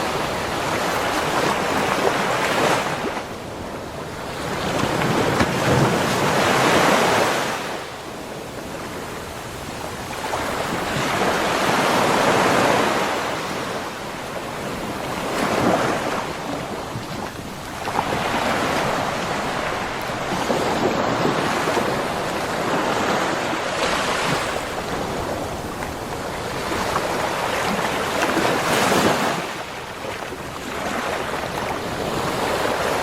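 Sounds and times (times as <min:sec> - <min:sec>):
ocean waves breaking: 0:00.0 - 0:33.0
wind noise on microphone: 0:00.0 - 0:33.0.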